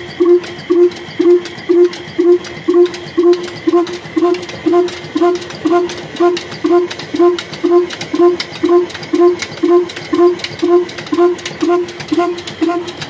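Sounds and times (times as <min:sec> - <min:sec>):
diesel engine popping exhaust: 0:00.0 - 0:13.0
valve gear clicking: 0:00.0 - 0:13.0.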